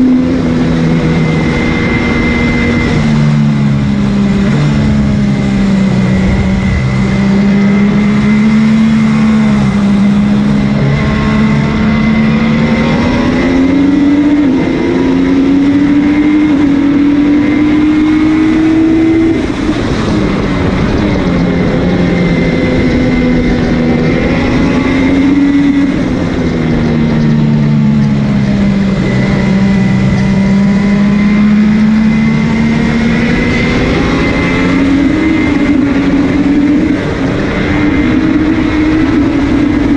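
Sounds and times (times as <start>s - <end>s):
race motorcycle engine: 0.0s - 39.9s
wind noise: 0.0s - 39.9s.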